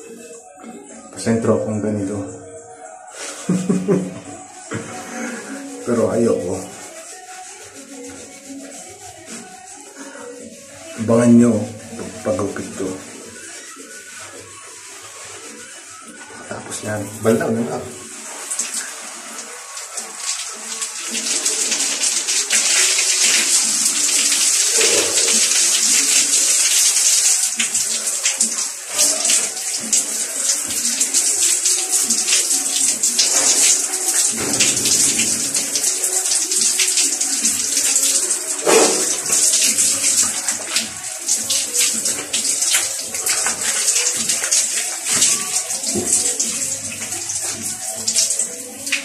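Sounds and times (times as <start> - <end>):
shower spray on hair: 3.1 - 49.0.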